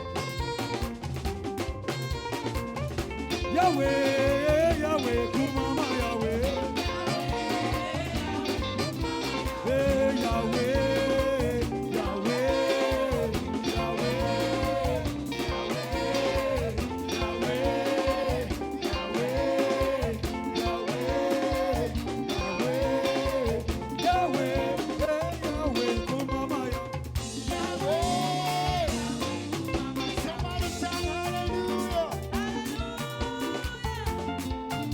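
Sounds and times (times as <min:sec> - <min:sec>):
gospel band playing upbeat groove: 0:00.0 - 0:34.9.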